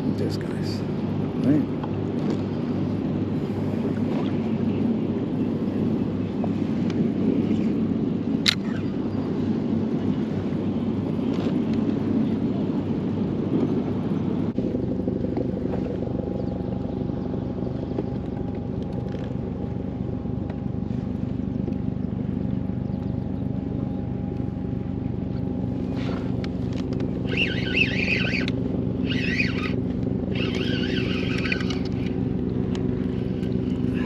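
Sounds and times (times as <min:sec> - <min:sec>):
engine droning: 0:00.0 - 0:34.0
steady higher hum: 0:00.0 - 0:34.0.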